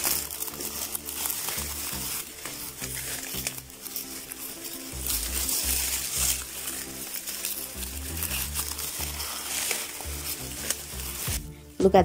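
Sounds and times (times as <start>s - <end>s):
background music: 0.0s - 12.0s
dry husks crackling and rustling: 0.0s - 12.0s.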